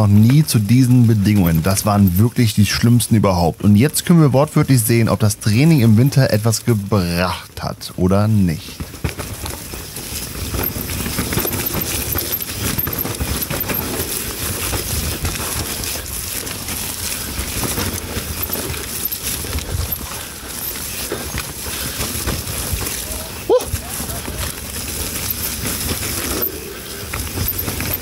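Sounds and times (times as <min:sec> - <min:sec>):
bike rattling and knocking: 0:00.0 - 0:28.0
wind and tyre noise: 0:00.0 - 0:28.0.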